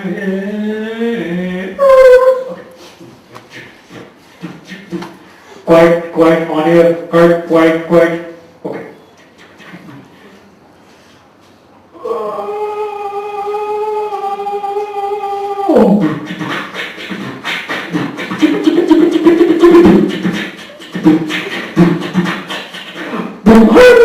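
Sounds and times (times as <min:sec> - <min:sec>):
man beatboxing: 0:00.0 - 0:10.4, 0:13.2 - 0:24.0.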